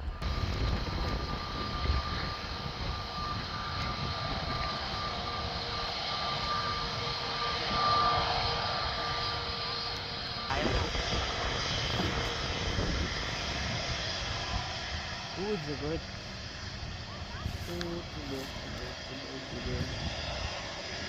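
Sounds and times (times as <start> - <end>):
jet engines whining: 0.0 - 21.0.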